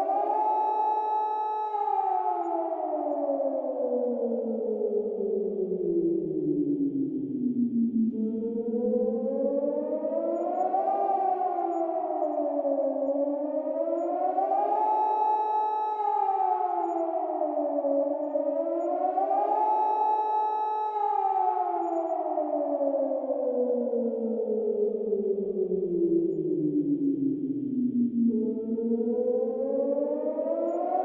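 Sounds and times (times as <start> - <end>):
civil defense siren wailing: 0.0 - 31.0.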